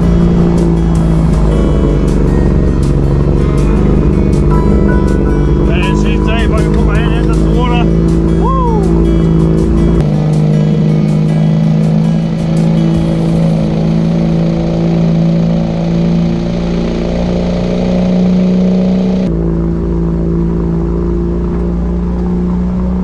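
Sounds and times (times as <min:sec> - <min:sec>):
muffled cabin drone: 0:00.0 - 0:23.0
truck engine running: 0:00.0 - 0:23.0
tyres on gravel track: 0:00.0 - 0:23.0.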